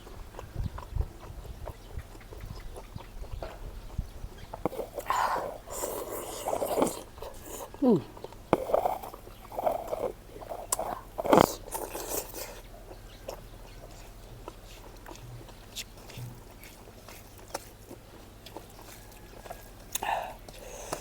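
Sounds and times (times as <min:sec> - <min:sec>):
person chewing food: 0:00.0 - 0:21.0
mouth clicks: 0:00.1 - 0:17.6, 0:19.9 - 0:21.0.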